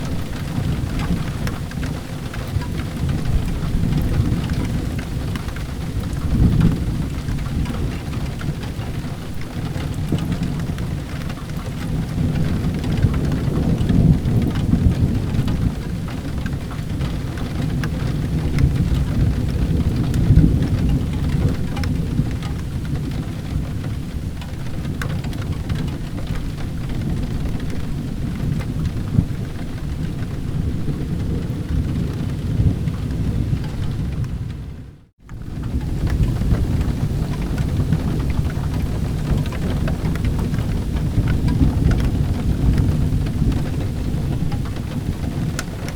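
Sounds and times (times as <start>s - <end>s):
low rolling thunder: 0.0s - 45.9s
steady rain: 0.0s - 45.9s.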